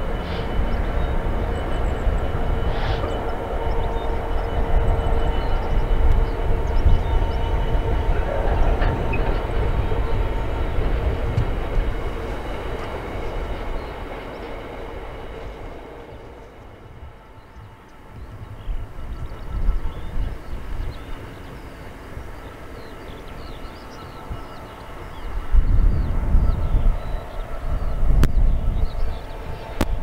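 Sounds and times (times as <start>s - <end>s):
faint locomotive engine hum: 0.0s - 30.0s
train wheels rumbling on rails: 0.0s - 30.0s.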